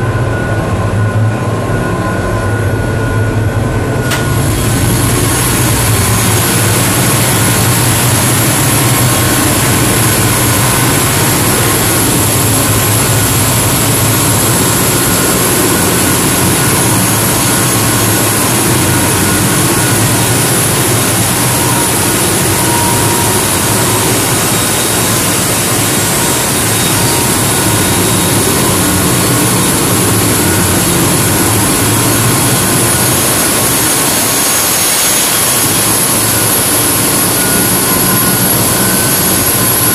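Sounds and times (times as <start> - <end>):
boat diesel engines running: 0.0 - 39.9.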